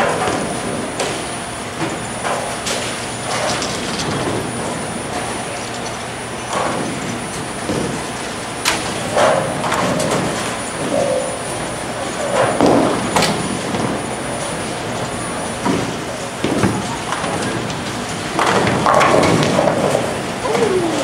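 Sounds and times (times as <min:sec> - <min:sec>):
bowling balls rolling on lanes: 0:00.0 - 0:21.0.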